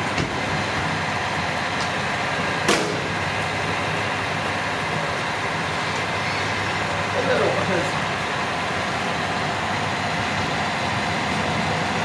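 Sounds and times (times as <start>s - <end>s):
train equipment hum and hiss: 0.0s - 12.0s.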